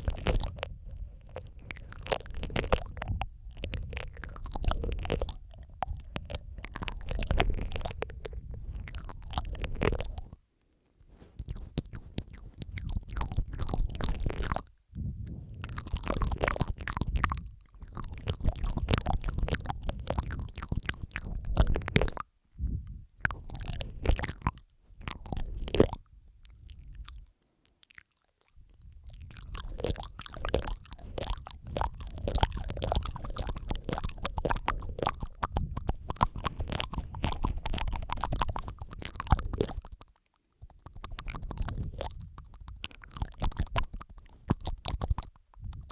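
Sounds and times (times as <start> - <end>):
wet mouth clicks and smacking: 0.0 - 10.4, 11.1 - 45.9.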